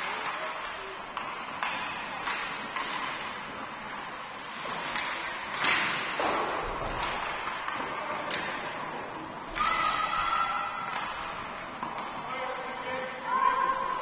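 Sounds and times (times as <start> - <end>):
sharp knocks echoing in rink: 0.0 - 14.0.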